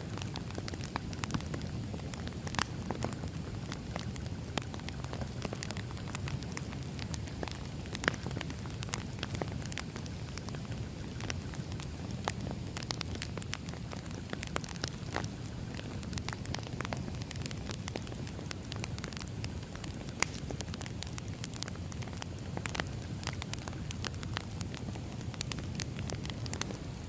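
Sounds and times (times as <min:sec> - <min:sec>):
firewood crackling: 0:00.0 - 0:27.0
low rumble of fire: 0:00.0 - 0:27.0
sharp pops and snaps: 0:00.0 - 0:27.0.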